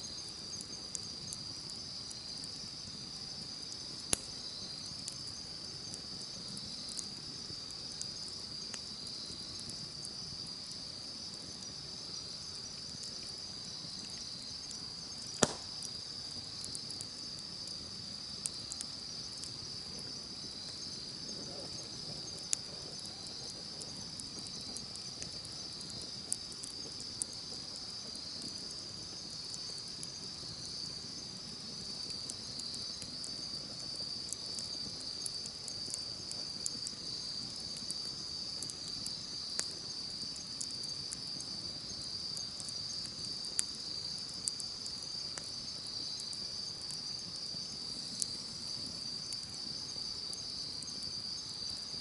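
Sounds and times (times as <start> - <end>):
high-pitched insect chorus: 0.0 - 52.0
wood campfire crackling: 0.0 - 52.0.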